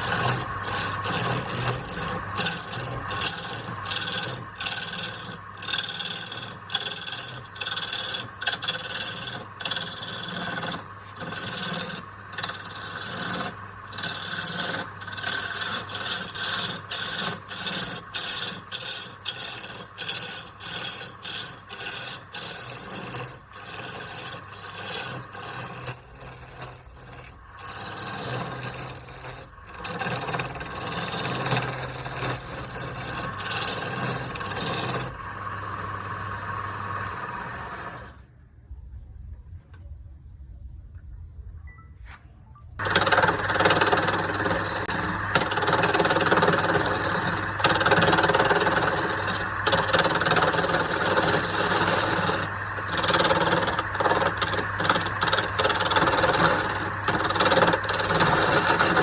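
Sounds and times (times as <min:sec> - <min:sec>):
hand tool rasping wood: 0:00.0 - 0:35.2, 0:42.8 - 0:59.0.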